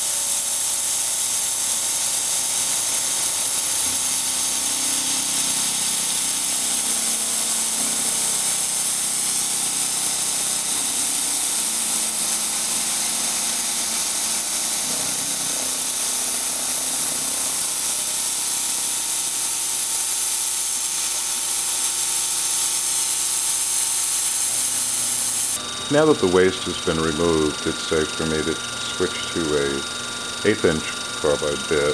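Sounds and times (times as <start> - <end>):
milling machine cutting metal: 0.0 - 31.9.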